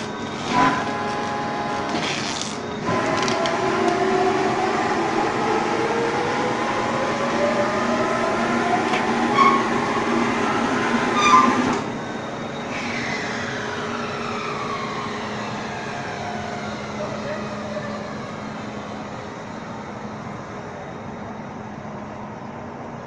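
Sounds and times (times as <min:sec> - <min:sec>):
baler machine humming and whining: 0:00.0 - 0:23.0.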